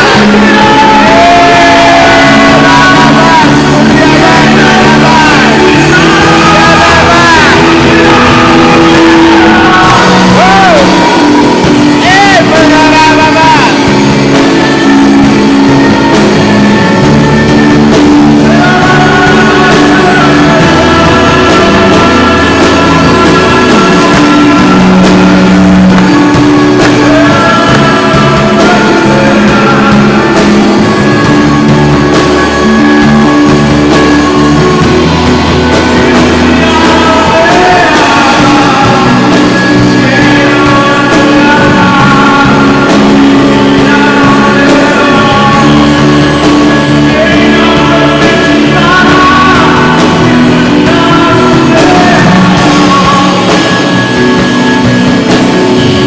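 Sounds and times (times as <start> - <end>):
singing: 0.0 - 56.0
worship band playing: 0.0 - 56.0.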